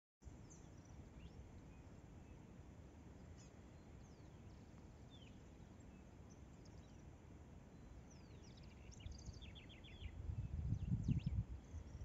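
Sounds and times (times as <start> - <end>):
faint low outdoor rumble: 0.2 - 12.0.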